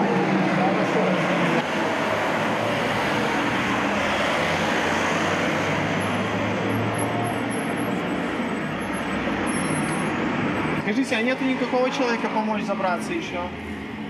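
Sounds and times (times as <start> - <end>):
passing cars: 0.0 - 14.0.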